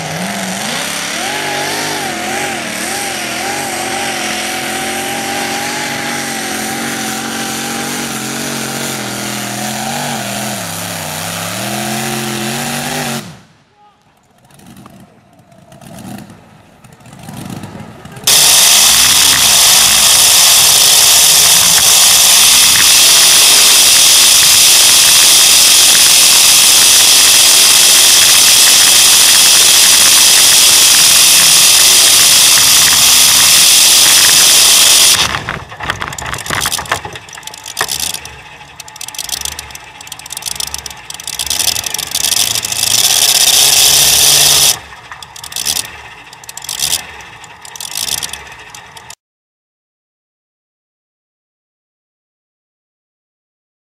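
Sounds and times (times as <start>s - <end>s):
tractor engine at full throttle: 0.0s - 49.2s.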